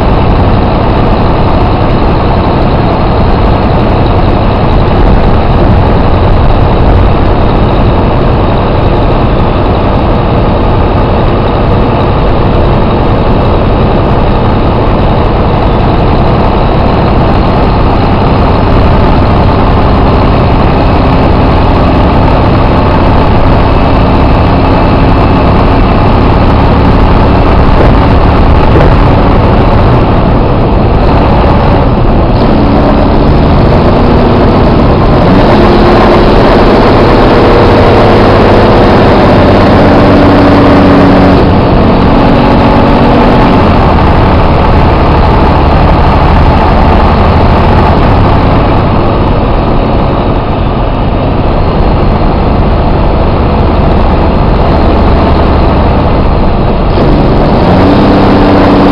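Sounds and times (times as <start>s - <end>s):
diesel engine drone: 0.0s - 58.9s.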